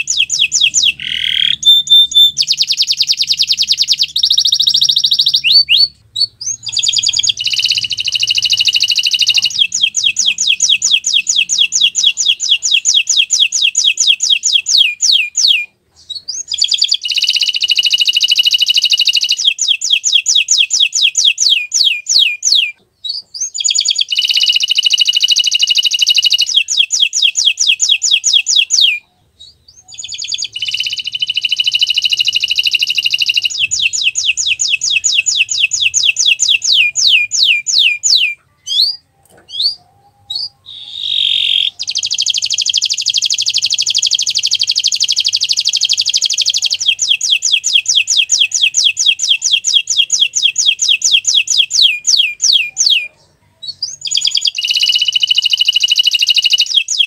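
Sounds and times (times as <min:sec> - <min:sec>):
canary singing high trills: 0:00.0 - 0:57.0.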